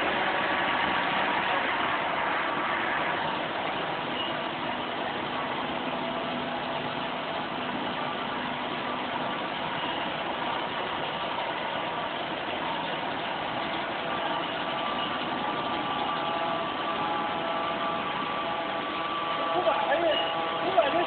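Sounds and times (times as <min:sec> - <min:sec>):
machine motors droning: 0:00.0 - 0:21.0.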